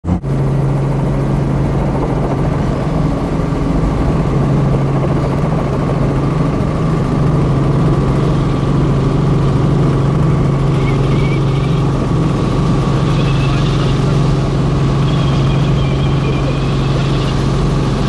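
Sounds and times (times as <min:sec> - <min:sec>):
helicopter engine and rotor: 0:00.1 - 0:18.0.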